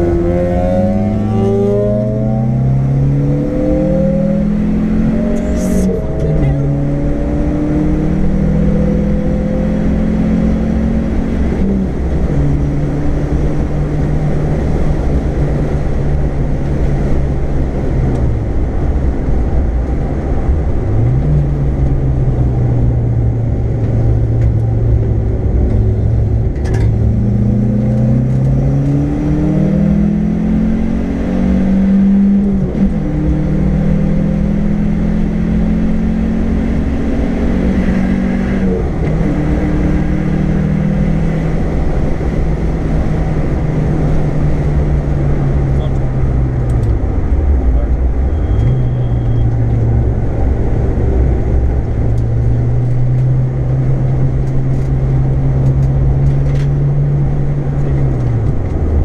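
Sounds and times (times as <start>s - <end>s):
car engine from inside cabin: 0.0s - 59.0s
road and tyre noise: 0.0s - 59.0s.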